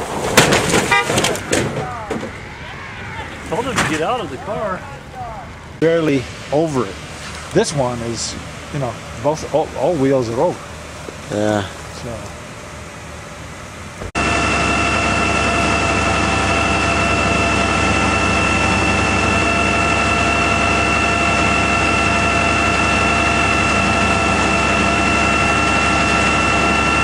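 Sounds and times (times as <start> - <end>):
high whine: 0.0 - 27.0
vehicle engine running: 0.9 - 27.0.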